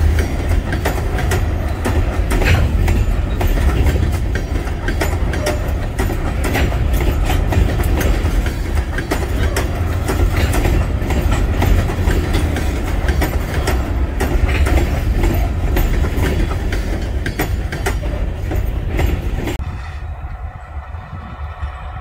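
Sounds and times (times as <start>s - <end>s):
wheels clicking over rail joints: 0.0s - 19.6s
distant train rumble: 0.0s - 22.0s
freight train wheels rumbling: 0.0s - 22.0s.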